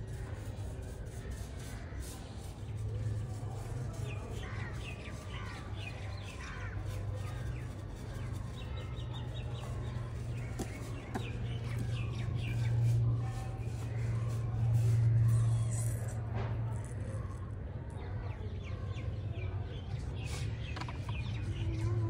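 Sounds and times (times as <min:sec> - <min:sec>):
birds chirping: 0:02.8 - 0:22.0.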